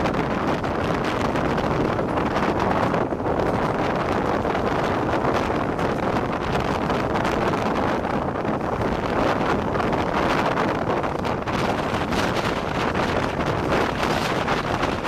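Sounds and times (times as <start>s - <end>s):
train coach running rumble: 0.0s - 15.0s
wind rushing over microphone: 0.0s - 15.0s.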